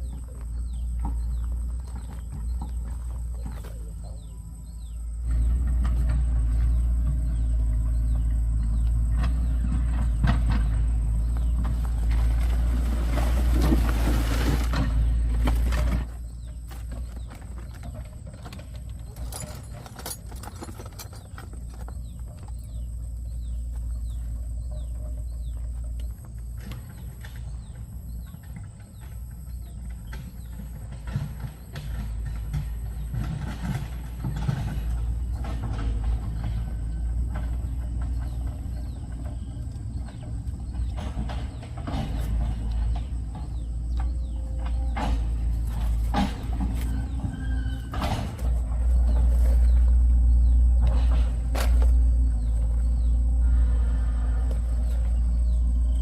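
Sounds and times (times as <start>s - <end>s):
birds chirping: 0.0s - 56.0s
engine humming: 0.0s - 56.0s.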